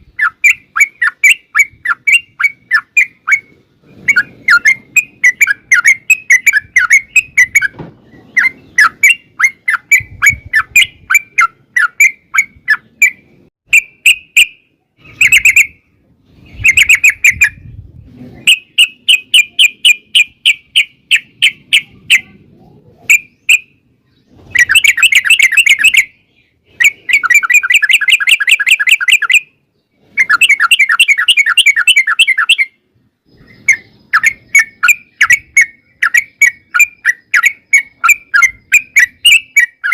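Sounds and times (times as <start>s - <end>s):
bird chirping and rattling: 0.0s - 22.4s, 23.1s - 39.9s.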